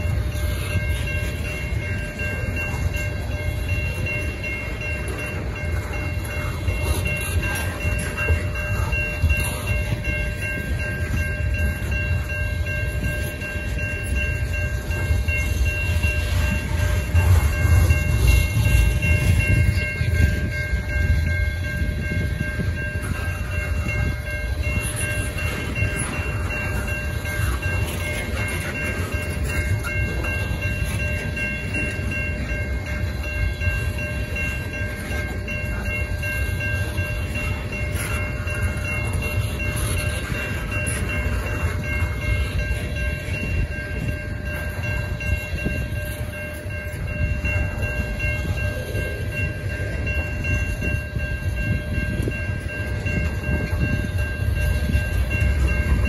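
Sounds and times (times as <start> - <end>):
freight train wheels rumbling: 0.0 - 56.0
high ringing tones: 0.0 - 56.0.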